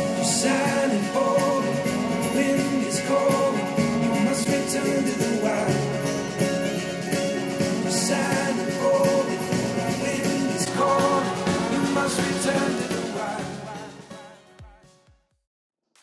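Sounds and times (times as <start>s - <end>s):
song over loudspeakers: 0.0s - 15.0s.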